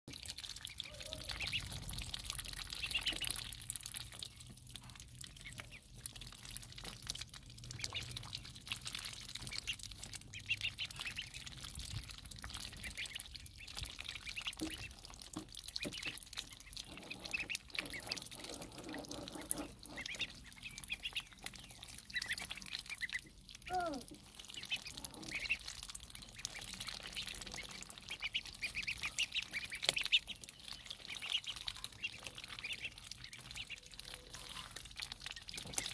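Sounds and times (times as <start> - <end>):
ducklings peeping: 0.1 - 35.9
water splashing and slurping: 0.1 - 35.9.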